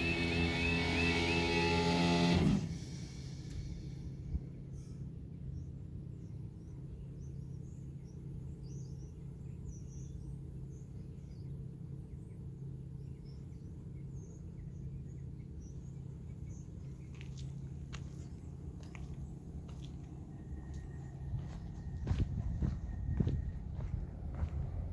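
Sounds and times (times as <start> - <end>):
low background rumble: 2.6 - 24.9
small birds chirping: 2.9 - 24.9.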